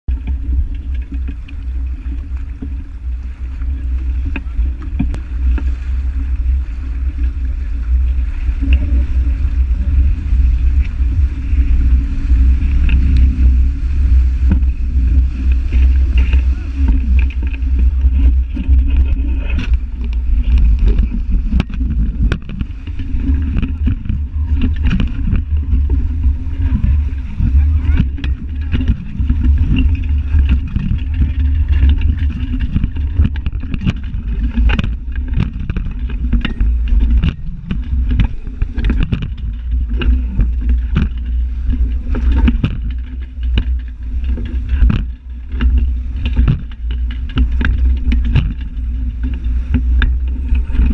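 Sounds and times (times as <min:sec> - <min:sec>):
knocks and splashes: 0:00.0 - 0:50.9
water rushing off hulls: 0:00.0 - 0:50.9
wind buffeting microphone: 0:00.0 - 0:50.9.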